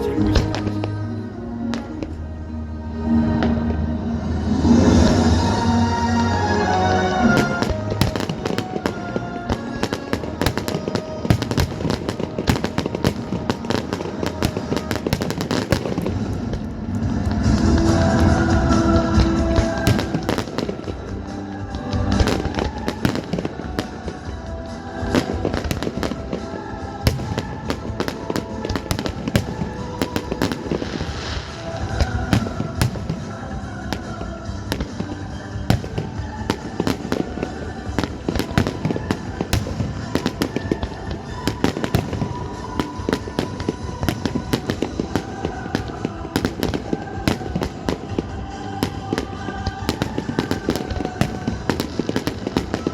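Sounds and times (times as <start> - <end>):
fireworks bursting and crackling: 0.0 - 1.1, 3.2 - 52.9
music playing: 0.0 - 52.9.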